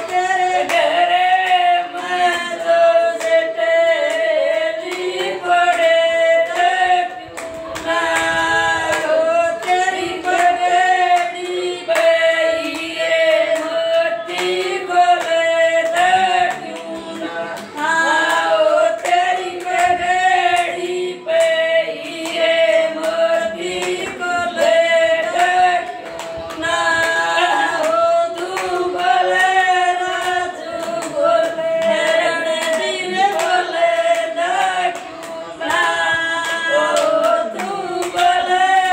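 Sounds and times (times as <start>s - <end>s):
rhythmic hand-clapping: 0.0s - 38.9s
women singing a folk song: 0.0s - 38.9s.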